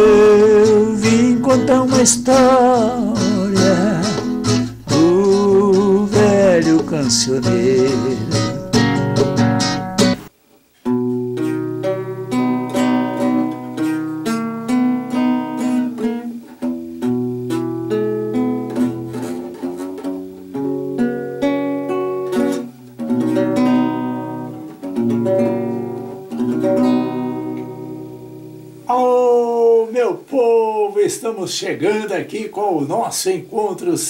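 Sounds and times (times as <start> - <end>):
acoustic guitar melody: 0.0 - 34.0.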